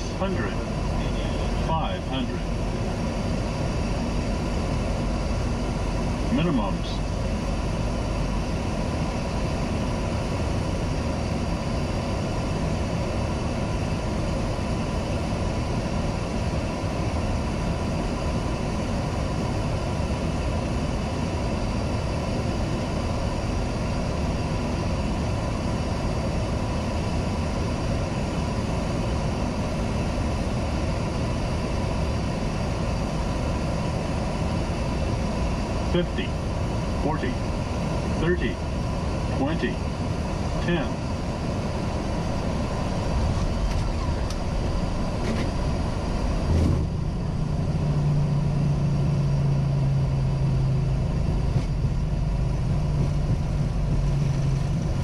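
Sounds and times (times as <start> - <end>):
aircraft engine noise: 0.0 - 55.0.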